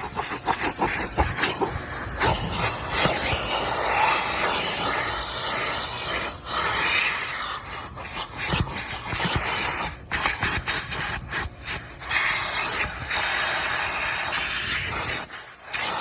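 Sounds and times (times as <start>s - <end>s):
vacuum hose sucking: 0.0s - 16.0s.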